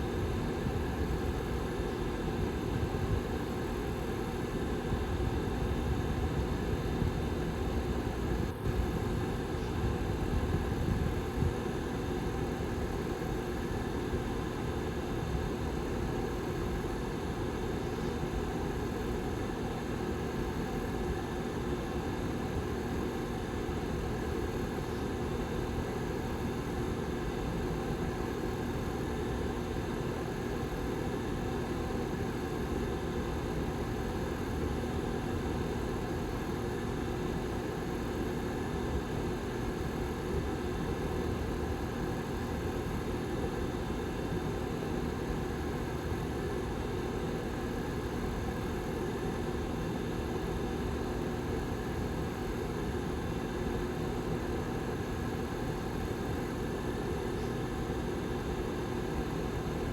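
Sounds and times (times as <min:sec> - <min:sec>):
heater fan running: 0:00.0 - 0:59.9.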